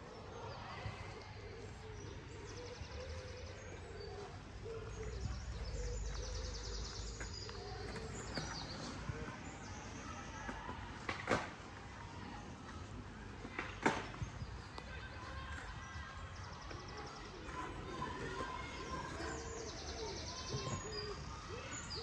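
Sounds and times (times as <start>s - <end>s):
small birds trilling: 0.0s - 10.4s, 14.1s - 22.0s.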